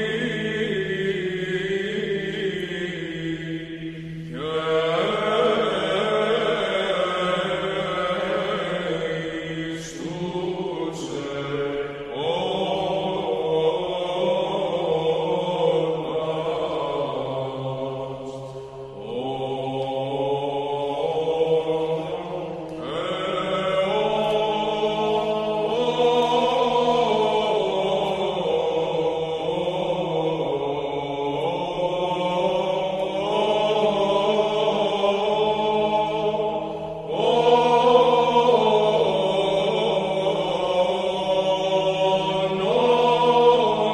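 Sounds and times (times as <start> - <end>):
person chanting: 0.0 - 43.9.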